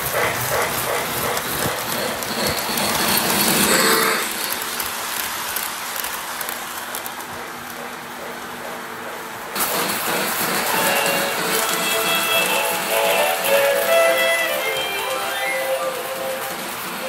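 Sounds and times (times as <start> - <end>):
model trains rumbling on metal track: 0.0 - 17.0.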